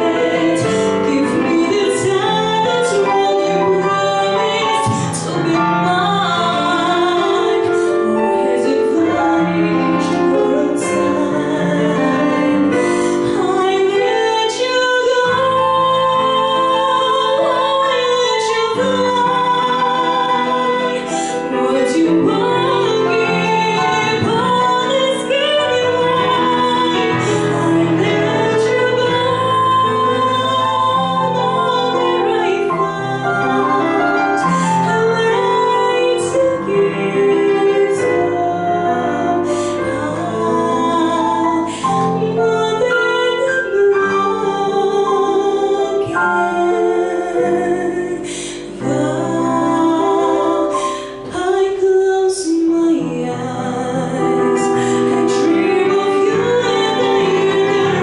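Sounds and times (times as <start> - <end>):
digital piano: 0.0 - 58.0
woman singing jazz: 0.0 - 58.0.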